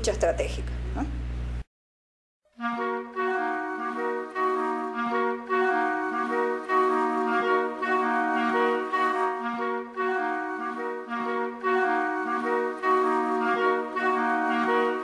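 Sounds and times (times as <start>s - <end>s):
instrumental music with chords: 2.5s - 15.0s.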